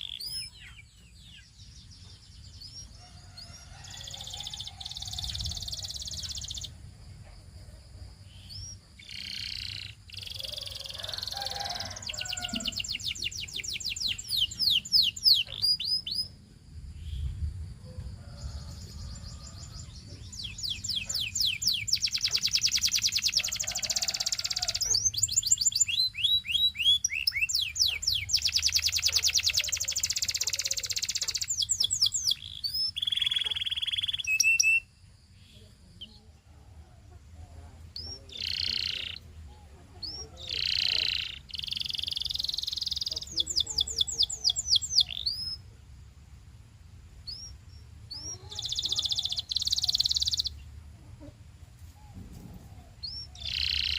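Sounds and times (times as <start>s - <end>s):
canary singing trills: 0.0s - 7.3s, 8.2s - 17.3s, 18.2s - 45.8s, 47.2s - 53.9s.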